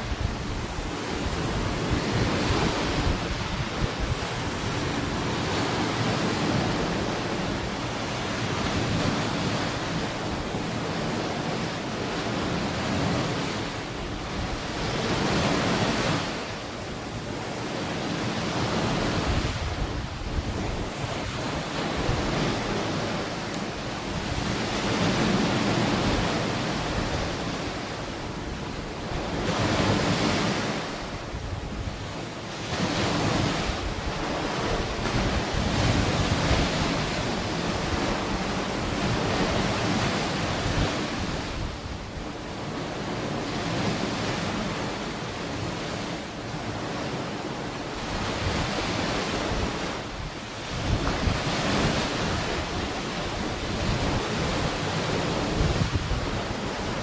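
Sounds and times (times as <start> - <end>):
wind buffeting microphone: 0.0 - 44.9, 46.7 - 57.0
ocean waves washing onto beach: 0.0 - 57.0.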